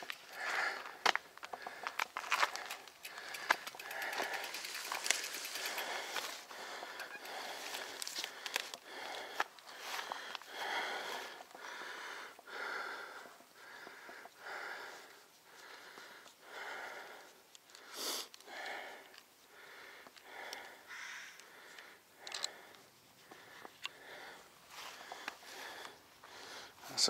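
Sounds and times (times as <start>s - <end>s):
heavy rhythmic breathing: 0.0s - 27.0s.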